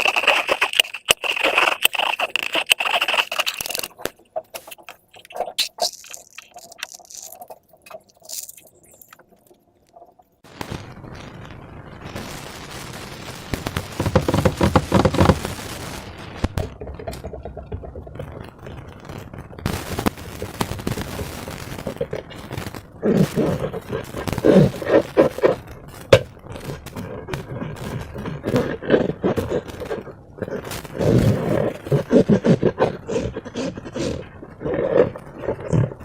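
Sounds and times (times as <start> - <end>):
slime crackling and squelching: 0.0 - 11.2, 11.8 - 36.0.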